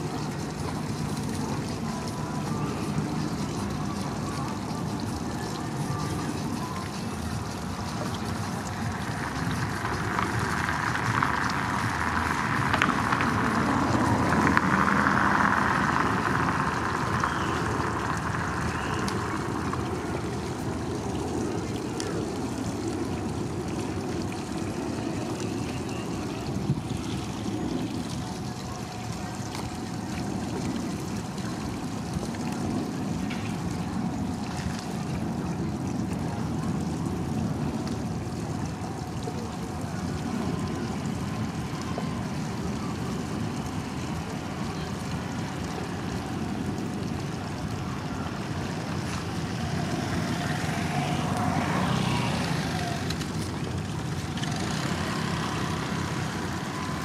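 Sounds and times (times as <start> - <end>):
boat engines droning: 0.0 - 57.0
faint water wash: 0.0 - 57.0.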